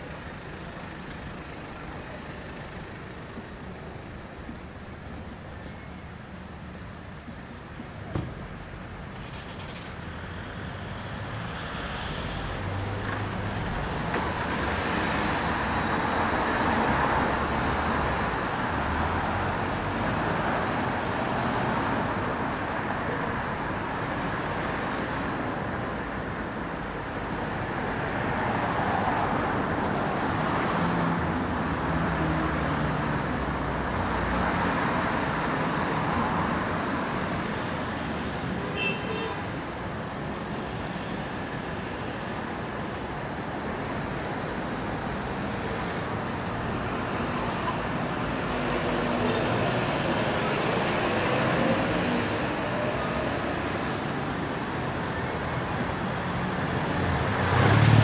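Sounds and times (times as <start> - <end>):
cars passing along a street: 0.0 - 58.0.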